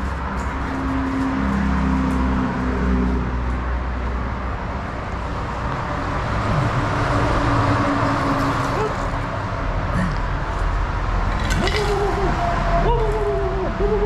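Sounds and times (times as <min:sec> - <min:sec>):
road traffic: 0:00.0 - 0:14.0
vehicle engine hum: 0:00.0 - 0:14.0.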